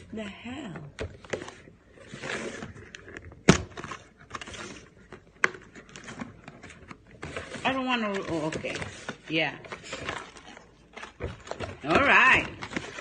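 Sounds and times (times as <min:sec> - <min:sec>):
cardboard box rustling: 0:01.2 - 0:13.0.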